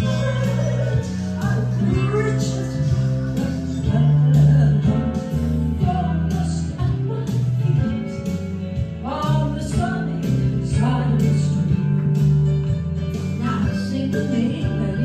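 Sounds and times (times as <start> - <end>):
woman singing into microphone: 0.0 - 8.4, 9.0 - 11.9, 13.4 - 15.0
recorded instrumental accompaniment: 0.0 - 15.0.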